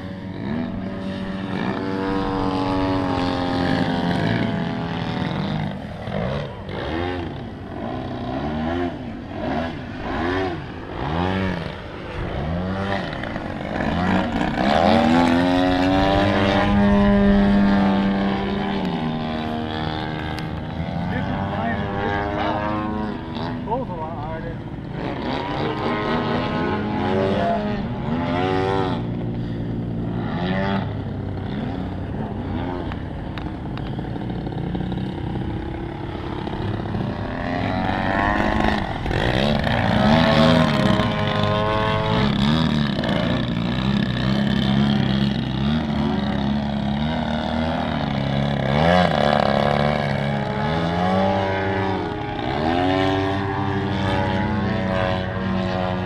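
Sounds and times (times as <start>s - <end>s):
model plane engines droning: 0.0s - 56.0s.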